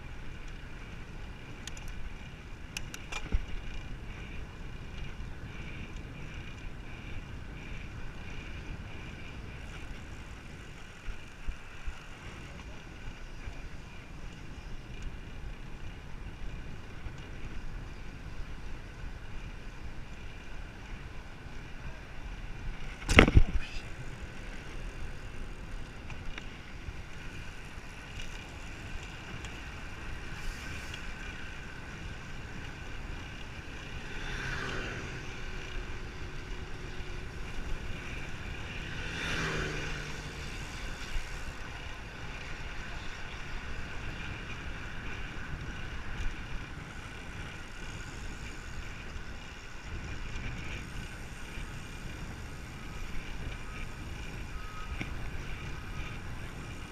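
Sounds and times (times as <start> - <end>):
road and wind noise: 0.0 - 56.9
vehicles passing: 0.0 - 56.9.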